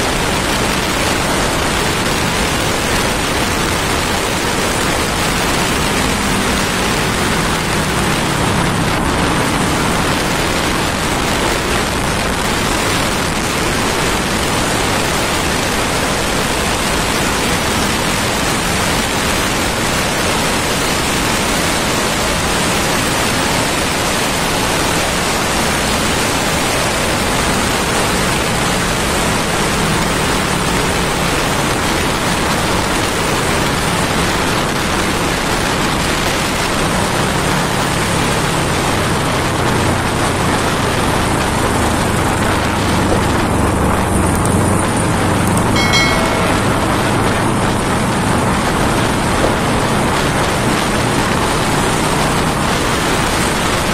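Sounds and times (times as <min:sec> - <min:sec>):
motorcycle engine drone: 0:00.0 - 0:53.9.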